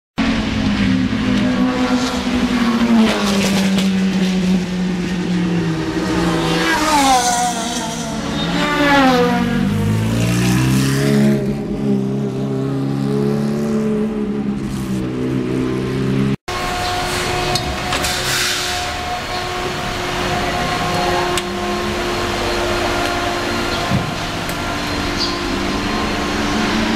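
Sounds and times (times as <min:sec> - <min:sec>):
race car engine passing: 0:00.2 - 0:17.9, 0:18.6 - 0:26.9.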